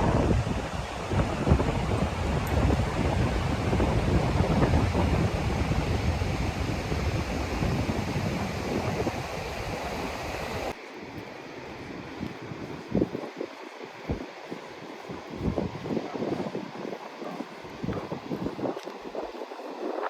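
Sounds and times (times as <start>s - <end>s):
wind buffeting microphone: 0.0s - 10.8s, 11.6s - 20.0s
surf washing on beach: 0.0s - 20.0s.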